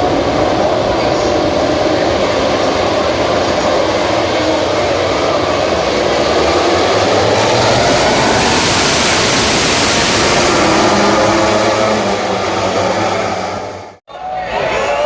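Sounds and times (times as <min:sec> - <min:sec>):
racing motorcycles passing: 0:00.1 - 0:14.0.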